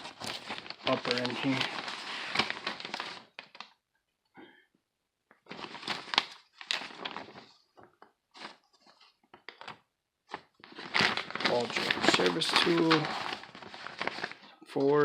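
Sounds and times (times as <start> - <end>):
paper pages rustling: 0.0 - 3.8, 5.3 - 15.0.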